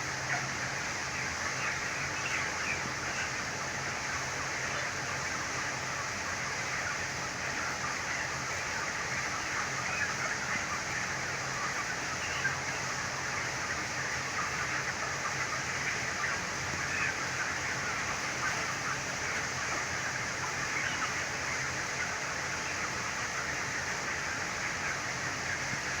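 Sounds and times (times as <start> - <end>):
flock of chickens: 0.0 - 26.0.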